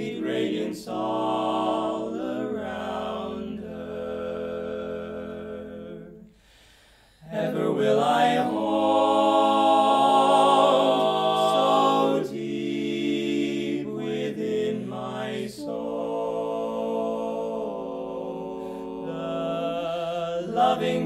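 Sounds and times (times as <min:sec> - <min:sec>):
male quartet singing in harmony: 0:00.0 - 0:06.3, 0:07.2 - 0:21.0.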